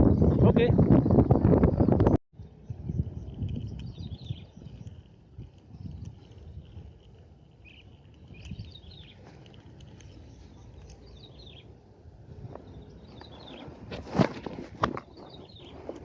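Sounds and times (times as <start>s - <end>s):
wind buffeting microphone: 0.0s - 16.0s
small birds chirping: 1.0s - 14.3s, 14.9s - 16.0s.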